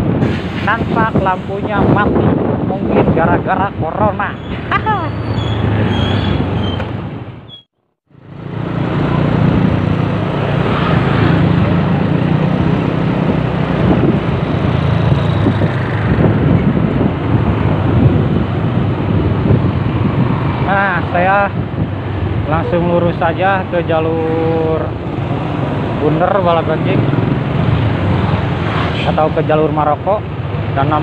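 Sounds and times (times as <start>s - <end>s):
road and wind noise: 0.0s - 31.0s.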